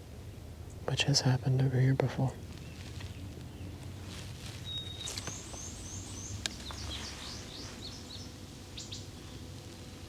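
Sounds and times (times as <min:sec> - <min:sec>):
songbirds singing: 0:00.3 - 0:10.0.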